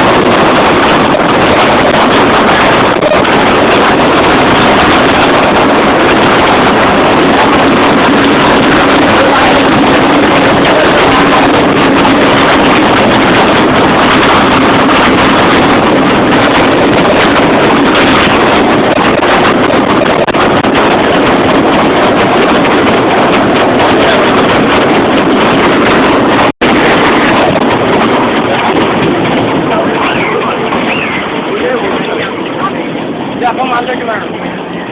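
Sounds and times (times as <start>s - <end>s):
loud engine noise: 0.0s - 34.9s
low hum: 0.0s - 34.9s
wind buffeting microphone: 0.0s - 34.9s.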